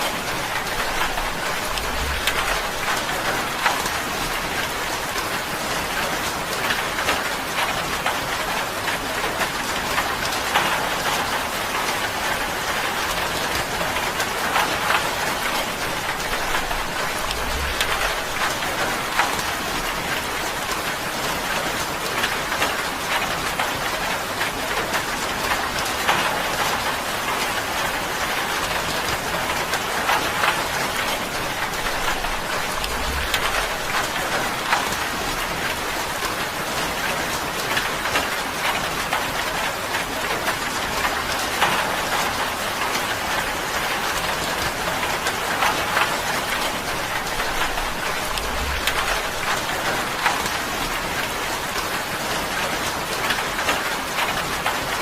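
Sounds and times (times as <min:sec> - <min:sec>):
rain on a tin roof: 0:00.0 - 0:55.0.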